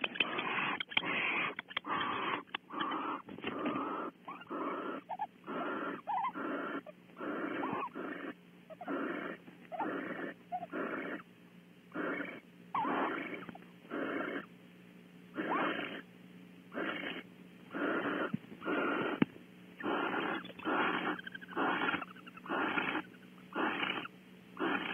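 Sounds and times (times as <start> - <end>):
owl chirping notes: 0.0 - 11.2, 11.9 - 14.5, 15.3 - 16.0, 16.7 - 19.2, 19.8 - 24.9
owls raspy hissing calls: 0.0 - 11.3, 11.9 - 14.5, 15.3 - 16.1, 16.7 - 19.2, 19.8 - 24.9
faint steady hum: 0.0 - 24.9.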